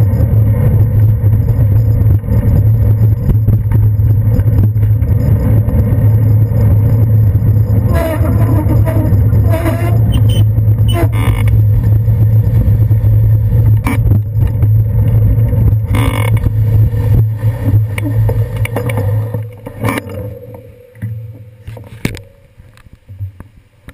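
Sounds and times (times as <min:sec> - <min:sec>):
wind and road rumble: 0:00.0 - 0:23.9.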